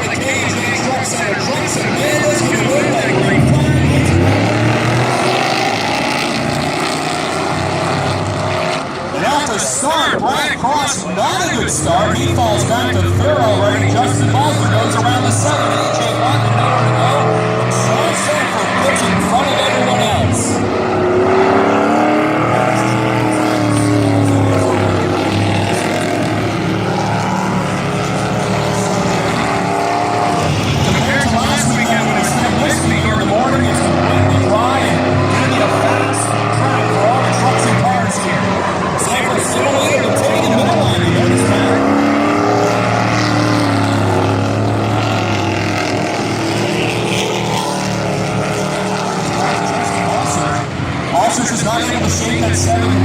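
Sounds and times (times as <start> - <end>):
race truck engines: 0.0 - 53.0.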